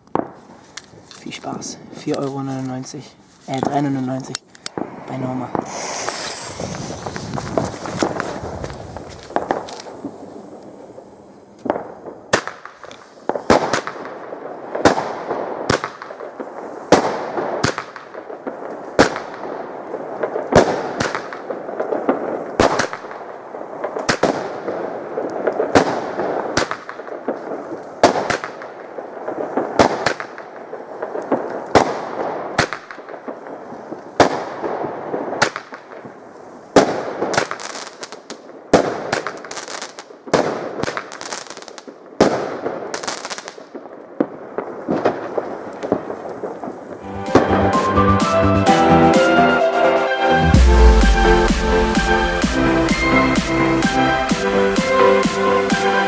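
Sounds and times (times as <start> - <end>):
firework rushing crackle: 0.0 - 47.4
firework bangs: 0.0 - 47.8.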